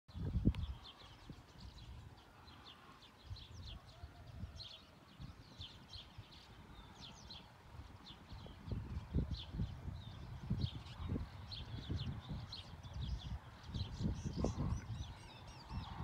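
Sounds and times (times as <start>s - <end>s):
small birds chirping: 0.1s - 16.0s
wind on microphone: 0.1s - 16.0s.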